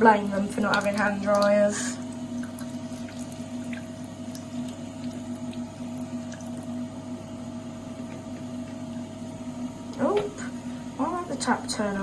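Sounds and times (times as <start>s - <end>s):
steady hum: 0.0s - 12.0s
water running from a tap: 0.0s - 12.0s.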